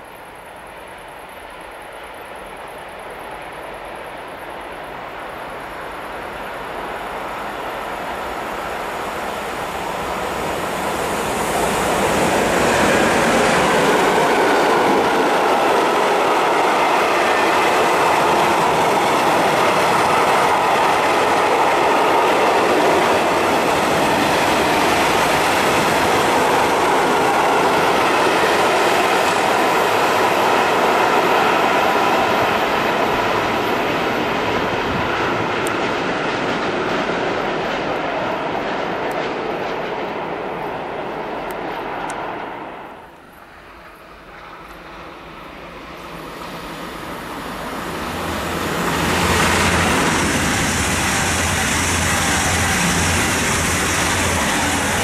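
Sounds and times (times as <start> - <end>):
freight train passing at speed: 0.0 - 55.0.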